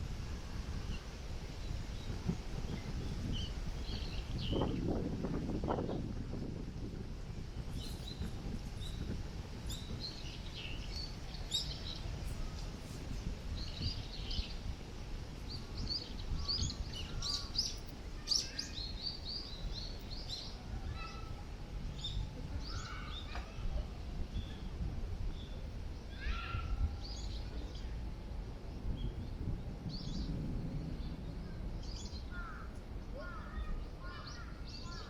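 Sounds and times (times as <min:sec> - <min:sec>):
wind rumble on microphone: 0:00.0 - 0:35.0
small birds chirping: 0:00.9 - 0:04.9, 0:07.7 - 0:14.8, 0:15.5 - 0:24.7, 0:25.3 - 0:35.0.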